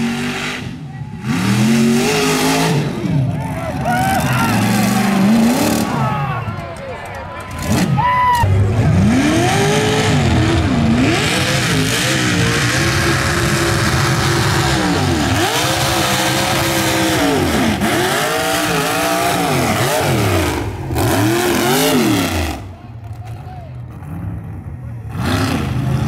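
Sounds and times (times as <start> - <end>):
truck engine revving: 0.0 - 6.5, 7.4 - 23.2, 23.8 - 26.0.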